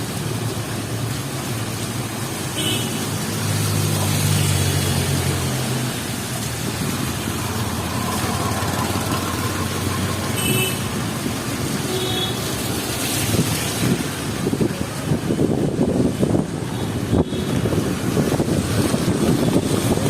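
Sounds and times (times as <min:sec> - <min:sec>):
heavy rain: 0:00.0 - 0:20.0
traffic noise: 0:00.0 - 0:20.0.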